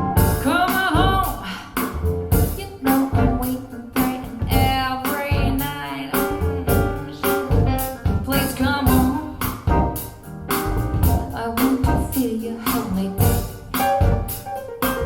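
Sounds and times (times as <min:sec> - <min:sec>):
jazzy song with piano and drums: 0:00.0 - 0:15.0.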